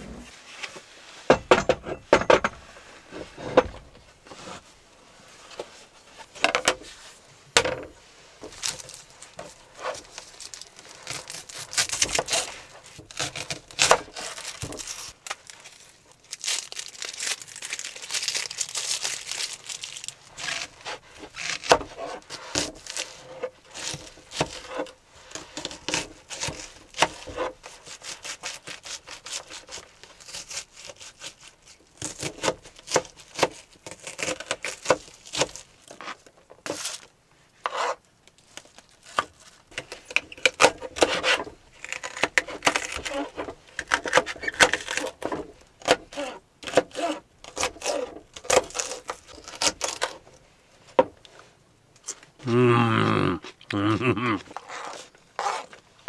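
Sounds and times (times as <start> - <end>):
rustling and crinkling: 0.0 - 52.4, 53.4 - 56.0.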